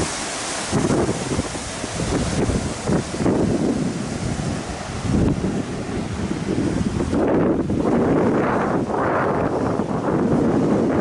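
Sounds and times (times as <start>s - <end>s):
surf washing onto beach: 0.0s - 11.0s
wind buffeting microphone: 0.0s - 11.0s.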